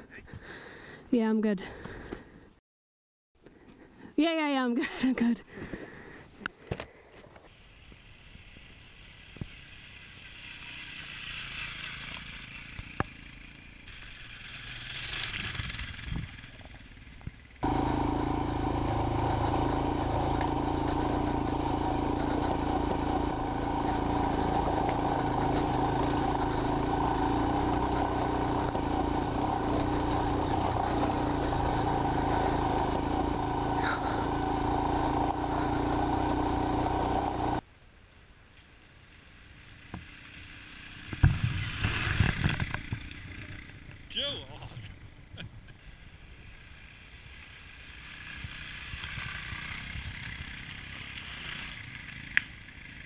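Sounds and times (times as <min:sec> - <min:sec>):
distant motorcycles approaching: 0:07.4 - 0:37.7, 0:38.6 - 0:53.0
motorcycle engine running close: 0:07.8 - 0:37.6, 0:38.9 - 0:53.0.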